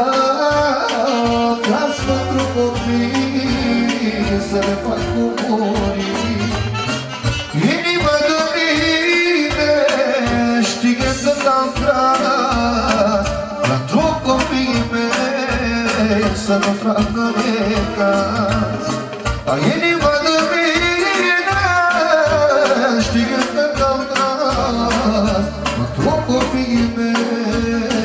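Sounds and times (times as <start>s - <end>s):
backing band with steady beat: 0.0s - 28.0s
man singing into microphone: 0.0s - 28.0s.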